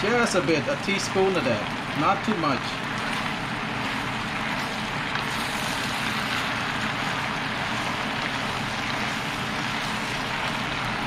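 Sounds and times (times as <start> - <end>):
food sizzling in a hot pan: 0.0 - 11.0.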